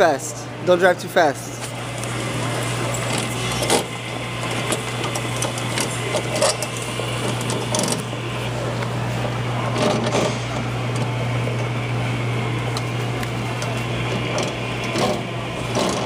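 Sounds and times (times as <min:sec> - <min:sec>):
electric motor humming: 0:01.5 - 0:16.0.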